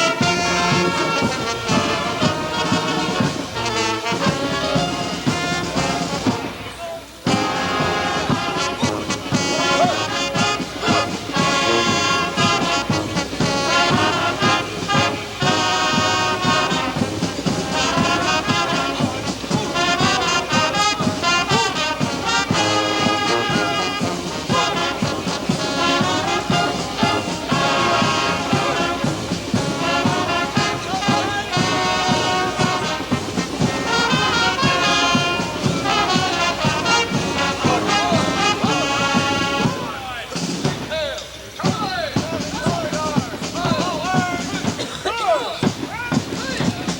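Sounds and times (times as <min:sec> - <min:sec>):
brass band playing: 0:00.0 - 0:46.9.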